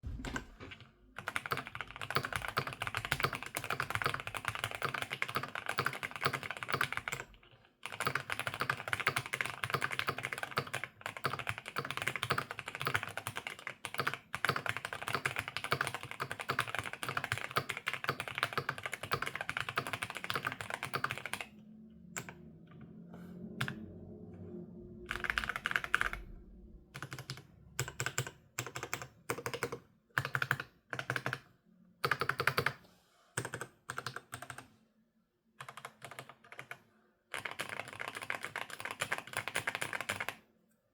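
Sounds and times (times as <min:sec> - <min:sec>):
mechanical keyboard typing: 0:00.1 - 0:21.5, 0:25.1 - 0:26.4, 0:27.0 - 0:32.8, 0:33.4 - 0:34.7, 0:35.6 - 0:40.4.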